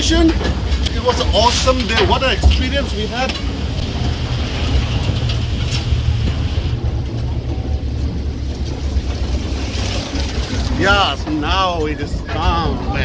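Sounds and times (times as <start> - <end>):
pickup truck rumbling: 0.0 - 13.0.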